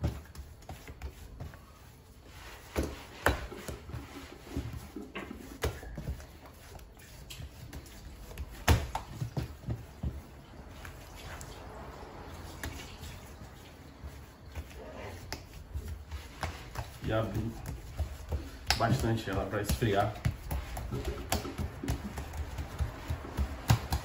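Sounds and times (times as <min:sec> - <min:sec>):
dough thumping and slapping: 0:00.0 - 0:11.3, 0:12.6 - 0:24.0.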